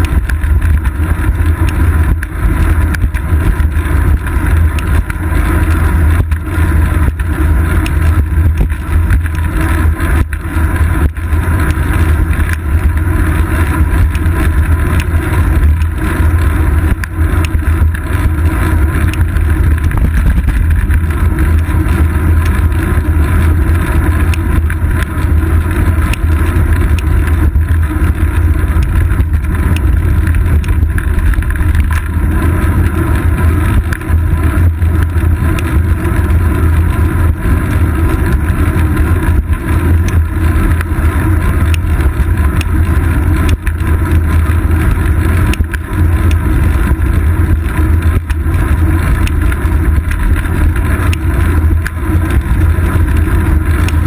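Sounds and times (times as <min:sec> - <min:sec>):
wind and road rumble: 0:00.0 - 0:54.0.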